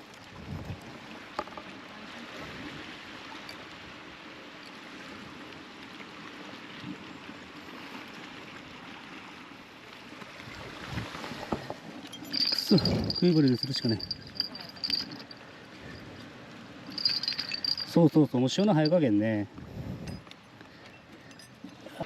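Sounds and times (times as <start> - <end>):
sea water washing and gurgling: 0.0 - 22.0.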